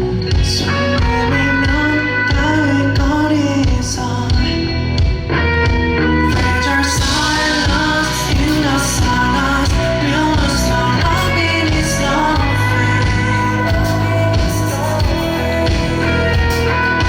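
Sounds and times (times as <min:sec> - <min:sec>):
person singing: 0:00.0 - 0:05.0, 0:06.0 - 0:17.0
live pop-rock band: 0:00.0 - 0:17.0.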